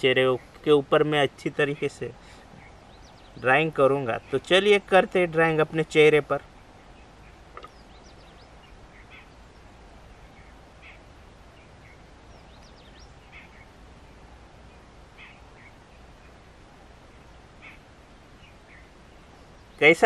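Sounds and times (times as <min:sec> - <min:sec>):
birds chirping: 0:00.0 - 0:20.0
low steady hiss: 0:00.0 - 0:20.0.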